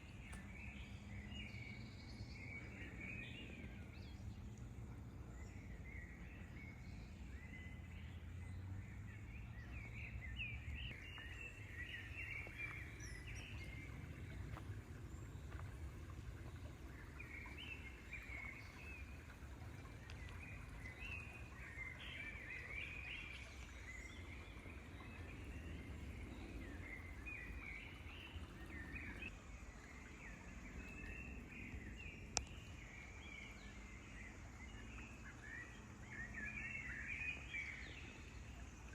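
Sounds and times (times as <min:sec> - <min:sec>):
low outdoor rumble: 0:00.0 - 0:38.9
small birds chirping: 0:00.0 - 0:38.9.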